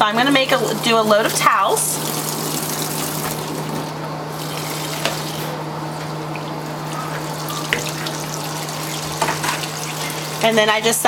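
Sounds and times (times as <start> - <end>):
water pouring into washing machine: 0.0 - 11.0.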